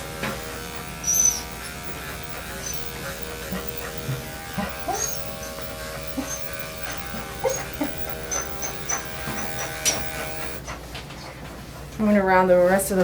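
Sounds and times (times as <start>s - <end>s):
dog whimpering: 0.0s - 10.6s
electric clippers buzzing: 0.0s - 10.6s.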